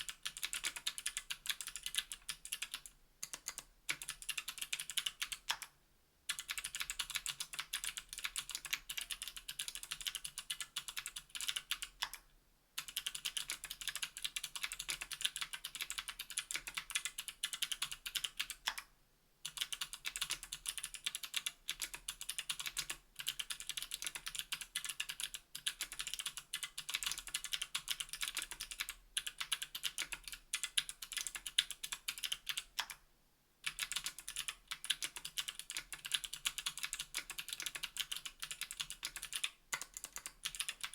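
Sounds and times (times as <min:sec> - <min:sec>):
mechanical keyboard typing clicks: 0:00.0 - 0:05.7, 0:06.3 - 0:12.2, 0:12.8 - 0:18.9, 0:19.5 - 0:33.0, 0:33.6 - 0:40.9.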